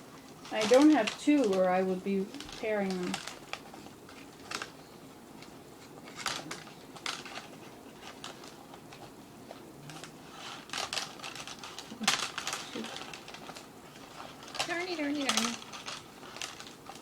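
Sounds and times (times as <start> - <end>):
dry reed stems crackling: 0.0 - 9.1, 9.8 - 17.0.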